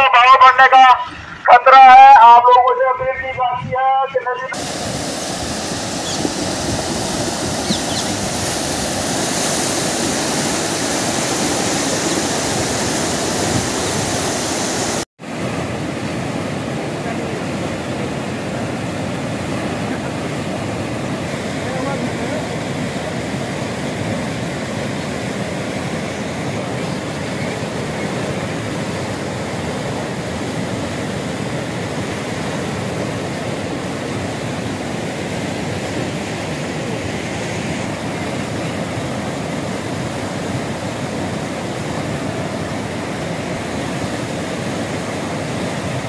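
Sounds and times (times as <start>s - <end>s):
floodwater rushing: 4.1s - 46.0s.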